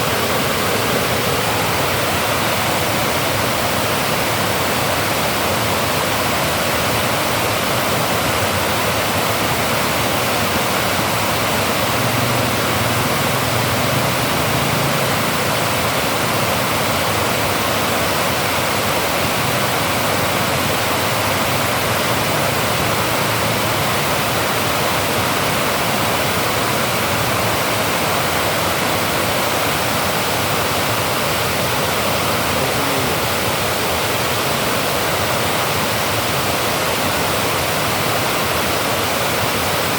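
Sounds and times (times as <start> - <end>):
water rushing over spillway: 0.0 - 39.9.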